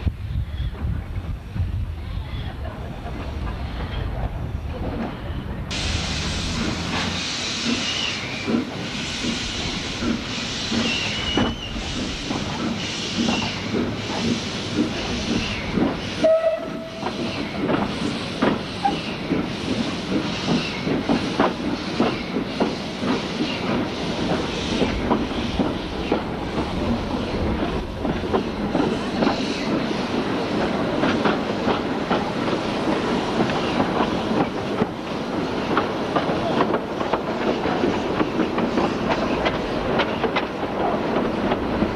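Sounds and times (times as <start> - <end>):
steam locomotive exhaust beats: 5.7 - 41.9.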